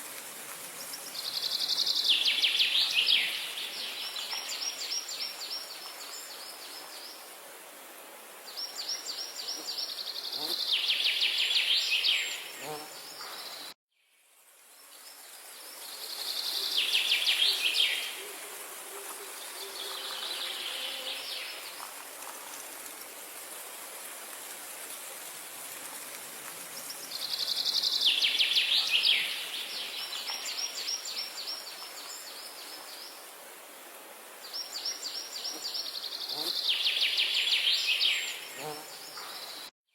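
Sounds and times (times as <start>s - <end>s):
outdoor background hiss: 0.0s - 39.7s.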